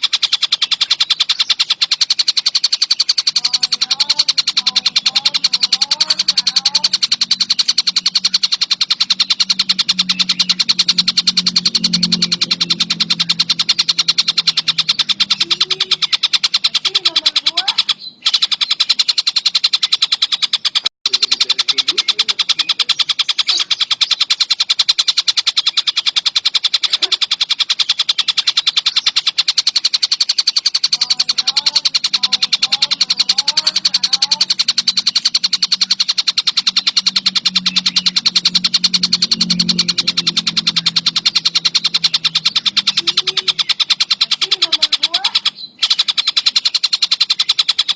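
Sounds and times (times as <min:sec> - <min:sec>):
kingfisher rattling call: 0:00.0 - 0:47.9.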